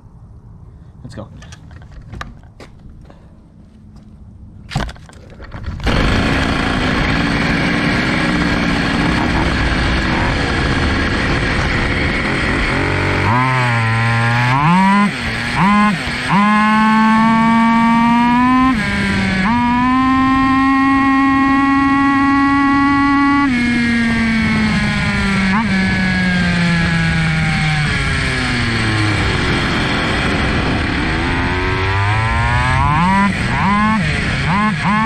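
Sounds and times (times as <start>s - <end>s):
two-stroke scooter engine revving: 5.8s - 35.0s.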